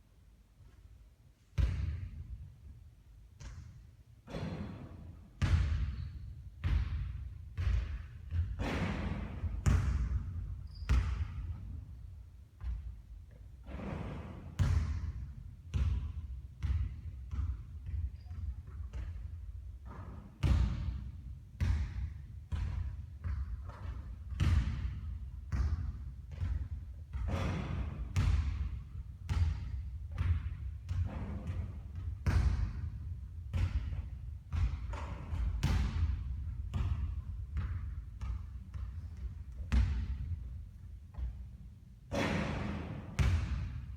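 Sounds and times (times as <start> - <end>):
basketball bouncing on a court: 1.6 - 2.6, 3.4 - 43.9.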